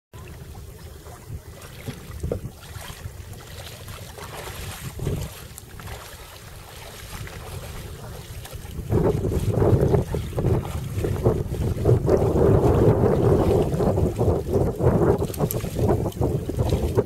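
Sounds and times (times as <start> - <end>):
water lapping against paddleboard: 0.1 - 17.0
wind buffeting microphone: 0.2 - 17.0.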